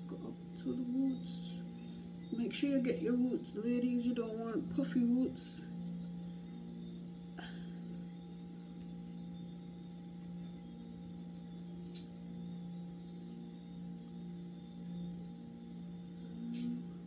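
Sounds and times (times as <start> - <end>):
steady tonal hum: 0.0 - 17.0.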